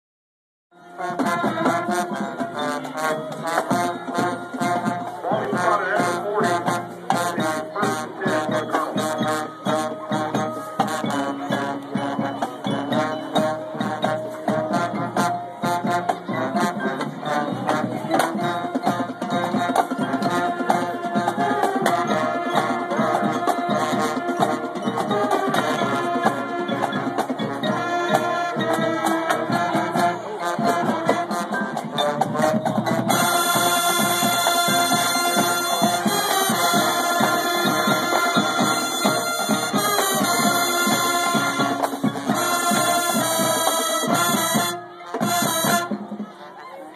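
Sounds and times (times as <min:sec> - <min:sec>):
marching band playing: 0:00.8 - 0:46.9
steady drum beat: 0:01.0 - 0:46.3.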